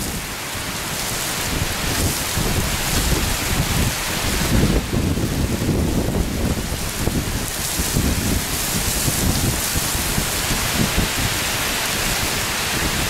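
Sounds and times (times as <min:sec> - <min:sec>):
heavy rain hiss: 0:00.0 - 0:13.0
low thunder rumble: 0:01.4 - 0:13.0.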